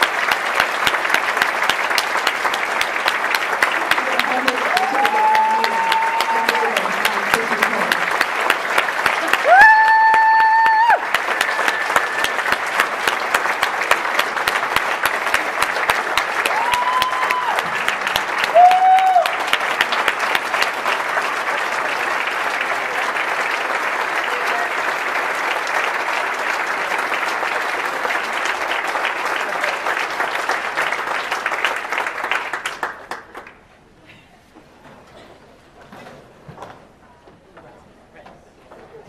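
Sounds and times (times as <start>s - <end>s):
audience applauding: 0.0s - 33.7s.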